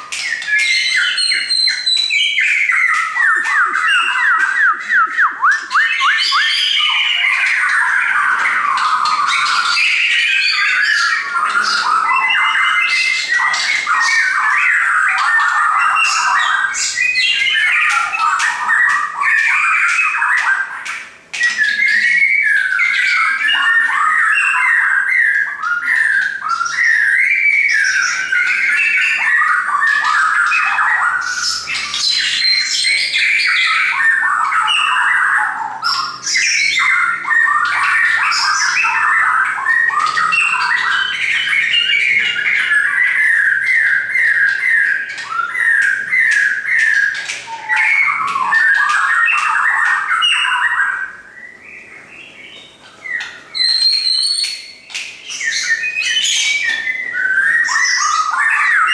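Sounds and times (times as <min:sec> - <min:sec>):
bird singing whistled phrases: 0:00.0 - 0:58.9.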